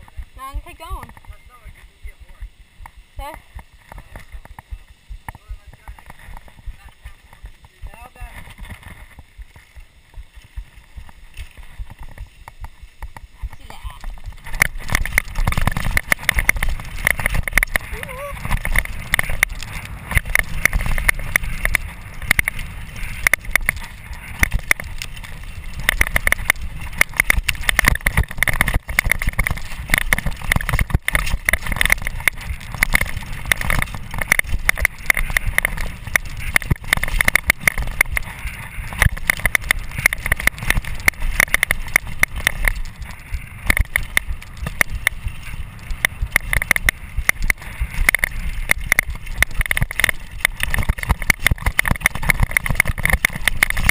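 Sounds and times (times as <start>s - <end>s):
bike rattling over bumps: 0.0s - 53.9s
tyre noise: 0.0s - 53.9s
wind rumble on microphone: 0.0s - 53.9s.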